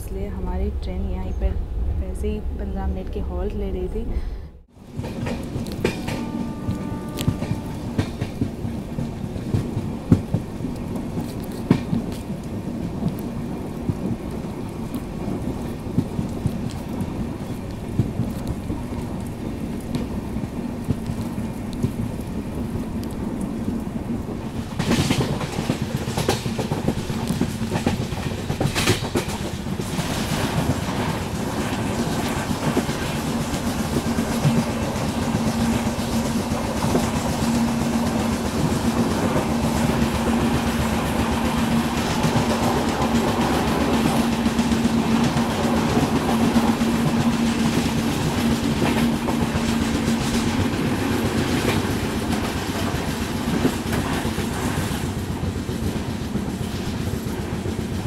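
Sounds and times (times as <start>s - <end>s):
train rumble and hum: 0.0s - 58.0s
train wheels clattering on rails: 4.8s - 58.0s.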